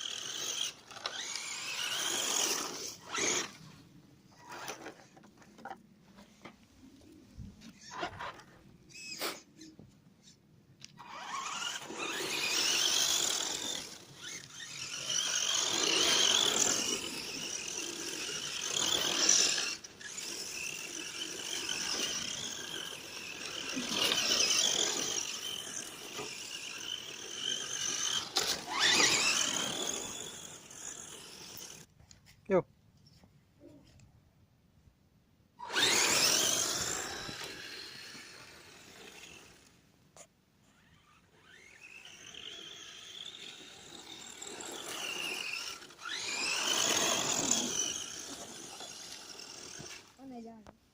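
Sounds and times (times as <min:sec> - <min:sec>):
toy truck motor whining: 0:00.0 - 0:03.8, 0:04.4 - 0:05.7, 0:07.7 - 0:31.9, 0:35.6 - 0:50.5.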